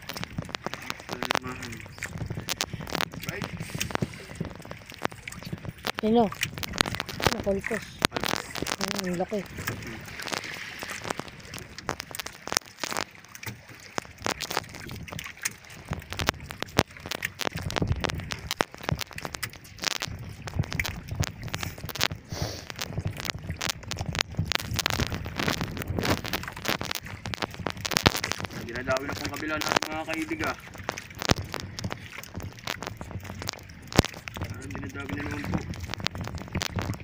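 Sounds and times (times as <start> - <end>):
fish flapping in wooden hull: 0.0 - 37.0.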